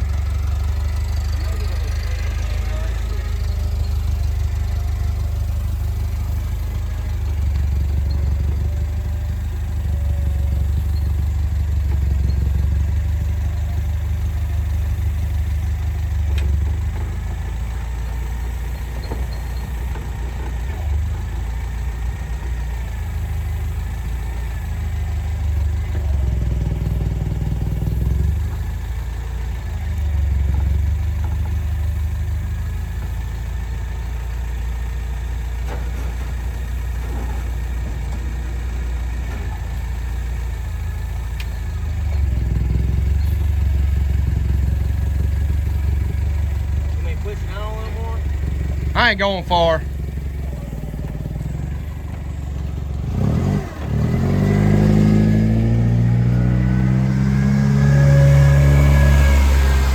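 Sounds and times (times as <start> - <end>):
engine revving near idle: 0.0 - 35.7, 36.4 - 59.9.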